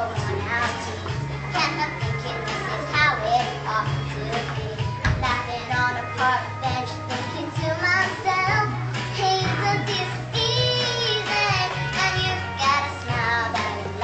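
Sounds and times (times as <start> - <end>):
backing music with bass line: 0.0 - 14.0
girl singing: 0.0 - 14.0.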